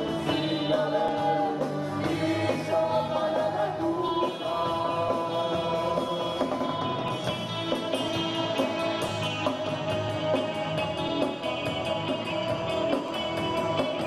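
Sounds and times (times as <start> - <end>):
drum kit steady beat: 0.0 - 14.0
electric guitar: 0.0 - 14.0.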